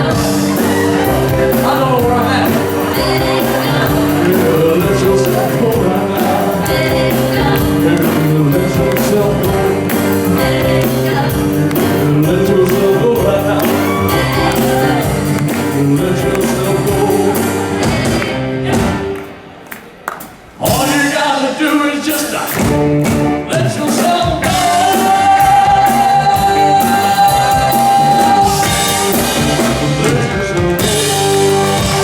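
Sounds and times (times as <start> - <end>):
lead singer singing: 0.0 - 19.2, 20.6 - 32.0
steady drum beat: 0.0 - 19.2, 22.5 - 32.0
live band playing: 0.0 - 32.0.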